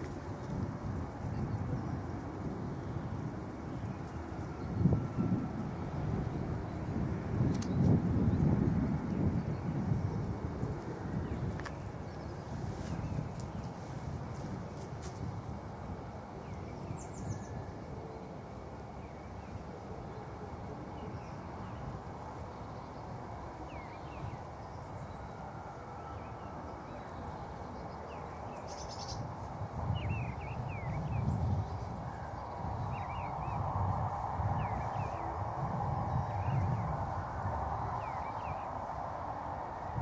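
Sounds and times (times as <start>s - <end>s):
steady outdoor noise: 0.0s - 40.0s
wind gusting on microphone: 0.0s - 40.0s.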